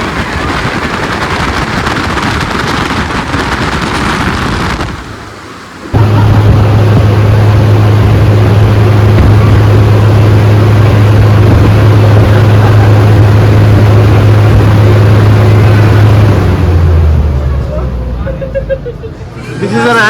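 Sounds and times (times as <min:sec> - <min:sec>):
rushing gusting wind: 0:00.0 - 0:17.6
deep blower motor hum: 0:00.0 - 0:20.0.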